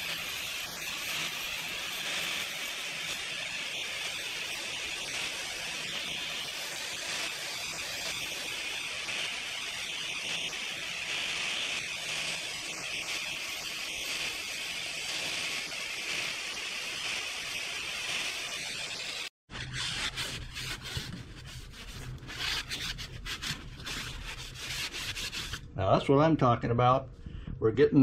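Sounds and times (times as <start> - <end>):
angle grinder sanding metal: 0.0 - 25.6.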